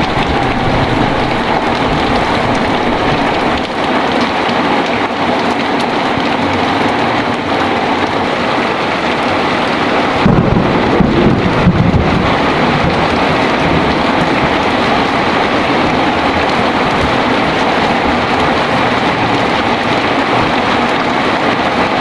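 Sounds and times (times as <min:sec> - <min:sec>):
thunder rumbling: 0:00.0 - 0:07.9, 0:08.6 - 0:22.0
heavy steady rain: 0:00.0 - 0:22.0.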